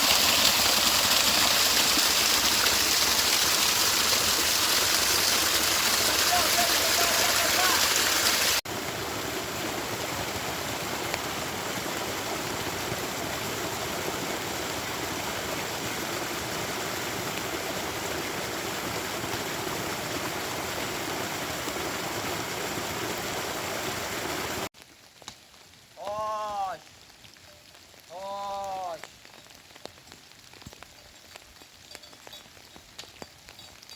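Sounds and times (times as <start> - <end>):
rainwater rushing: 0.0 - 33.9.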